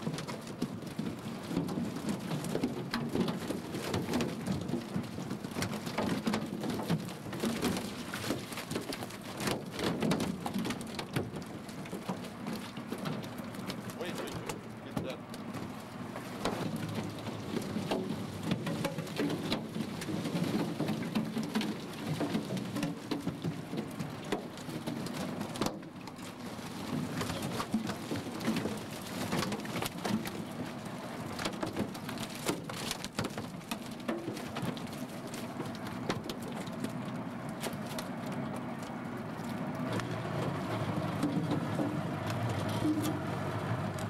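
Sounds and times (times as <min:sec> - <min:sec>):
fish flopping on metal deck: 0:00.5 - 0:44.0.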